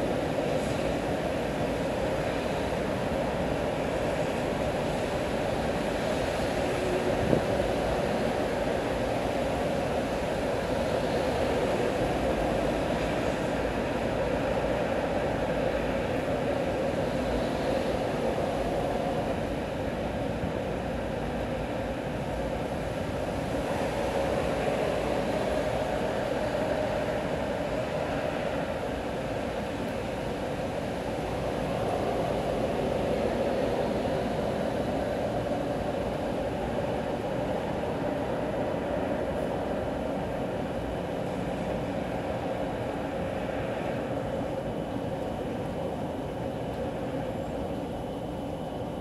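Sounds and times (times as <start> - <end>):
steady rain: 0.0 - 49.0
traffic rumble on wet road: 0.0 - 49.0.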